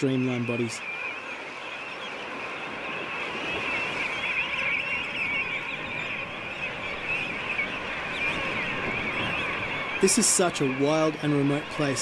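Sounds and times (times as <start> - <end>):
penguin colony calling: 0.0 - 12.0.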